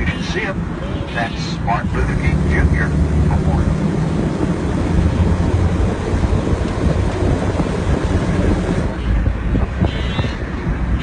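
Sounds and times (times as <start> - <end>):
vehicle running: 0.0 - 11.0
wind buffeting microphone: 0.0 - 11.0.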